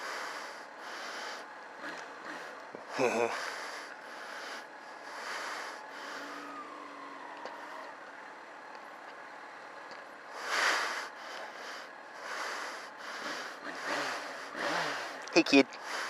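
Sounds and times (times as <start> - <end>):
motorcycle road noise: 0.0 - 16.0.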